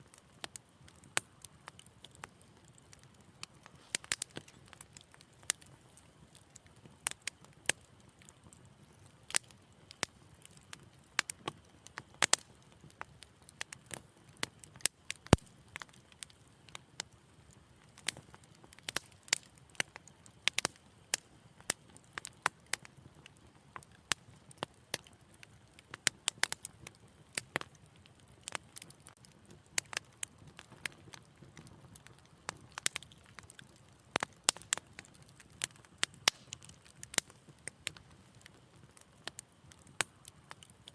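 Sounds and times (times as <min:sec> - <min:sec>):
soft low rush of flame: 0:00.0 - 0:40.9
wood fire crackling: 0:00.0 - 0:40.9.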